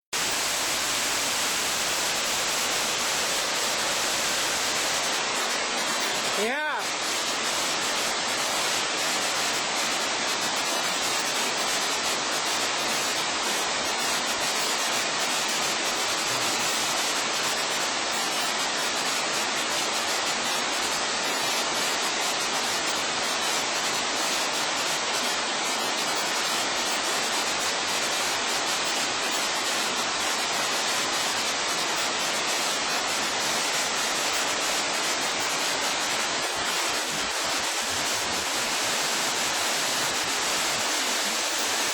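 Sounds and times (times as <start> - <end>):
waterfall running: 0.2 - 41.9.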